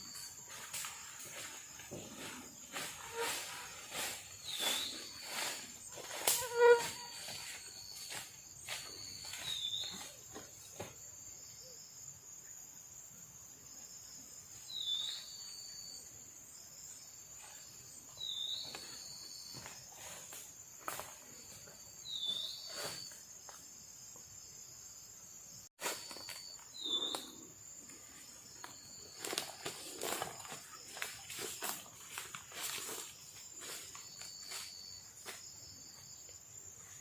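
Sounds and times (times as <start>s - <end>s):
insect chorus buzzing: 0.0s - 37.0s.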